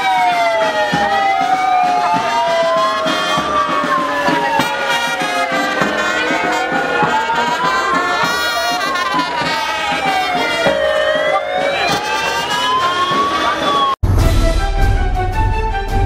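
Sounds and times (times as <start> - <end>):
police siren wailing: 0.0 - 14.0
brass marching band with drums: 0.0 - 16.0.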